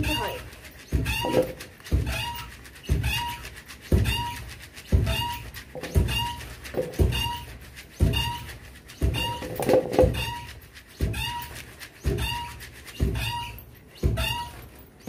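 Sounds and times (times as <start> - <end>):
wooden pestle thudding: 0.0 - 14.8
short high squeak: 0.0 - 15.0.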